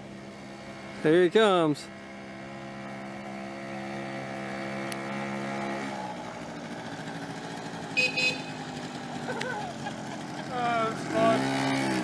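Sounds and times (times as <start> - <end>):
scooter engine running hard: 0.0 - 12.0.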